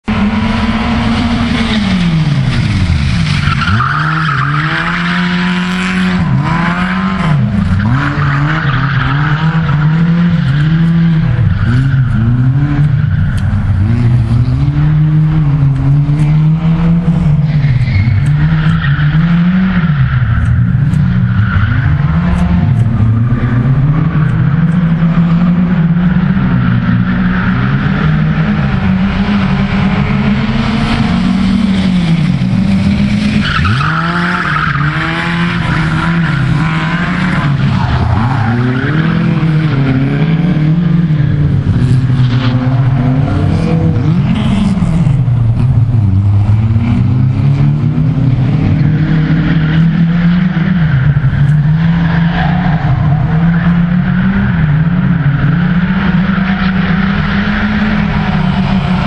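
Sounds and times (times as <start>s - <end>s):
race car engine revving: 0.0s - 59.0s
tyres squealing and skidding: 1.4s - 15.5s, 17.0s - 45.4s, 48.6s - 59.0s.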